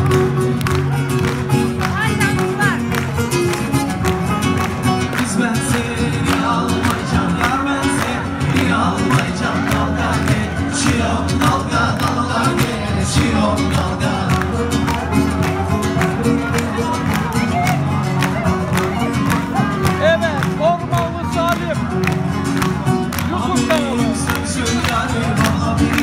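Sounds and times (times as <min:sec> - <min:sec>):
live band with plucked strings: 0:00.0 - 0:26.0.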